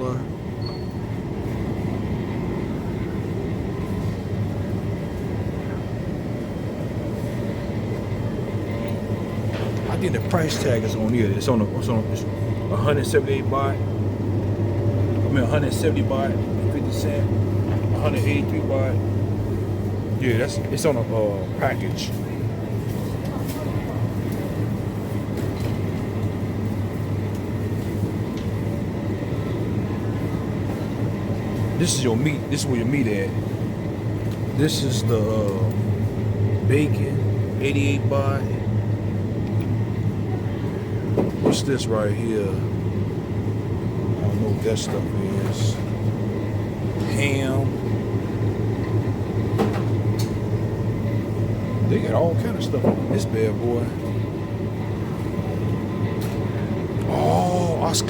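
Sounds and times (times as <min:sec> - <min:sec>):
refrigerator and air handling hum: 0:00.0 - 0:58.0
supermarket background rumble: 0:00.0 - 0:58.0.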